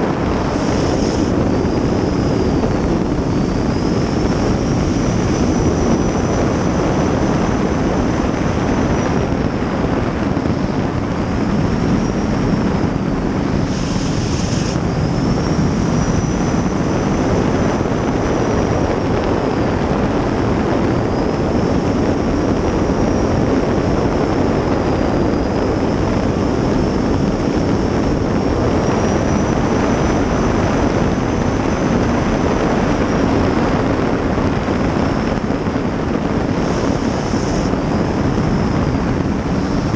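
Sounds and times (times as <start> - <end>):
boat engine water and wind rush: 0.0 - 39.9
high turbine whine: 0.0 - 39.9.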